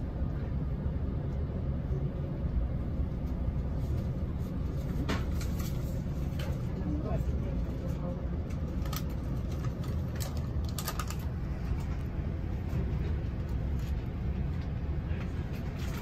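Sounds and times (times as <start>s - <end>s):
train rumble heard on board: 0.0s - 16.0s.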